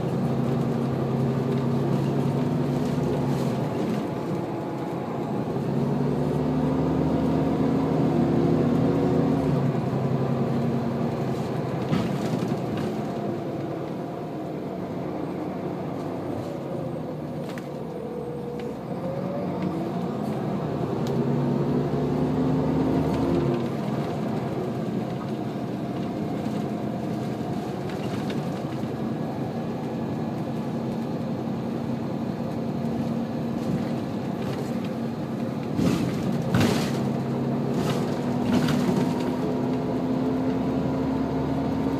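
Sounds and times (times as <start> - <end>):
bus diesel engine: 0.0 - 41.9.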